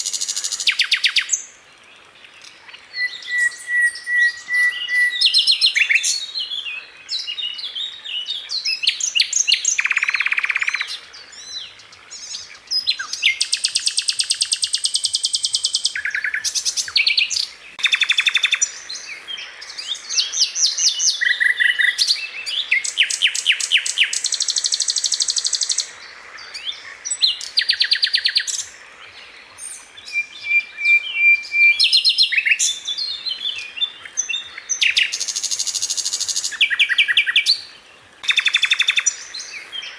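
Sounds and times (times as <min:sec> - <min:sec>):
songbird trilling: 0:00.0 - 0:01.5, 0:02.4 - 0:28.8, 0:29.6 - 0:39.9.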